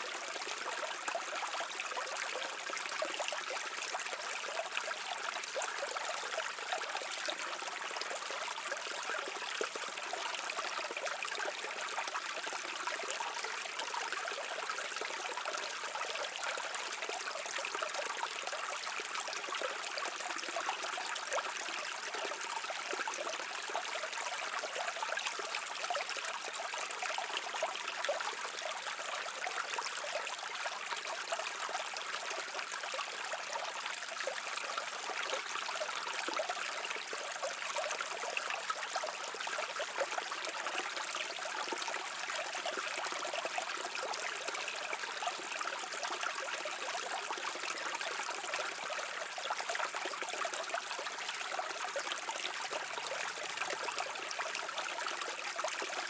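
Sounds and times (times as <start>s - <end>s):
stream water trickling over rocks: 0.0s - 56.0s.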